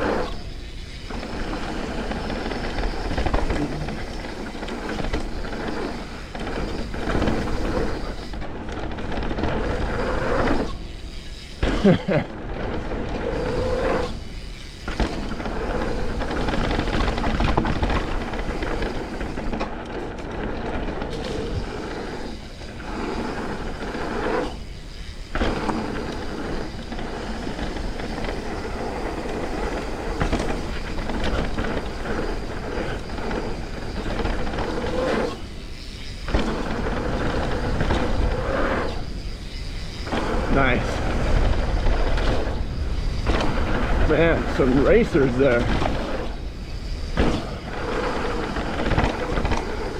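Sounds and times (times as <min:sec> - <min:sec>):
bike rattling: 0:00.0 - 0:49.9
bike tyres rolling over dirt: 0:00.0 - 0:49.9.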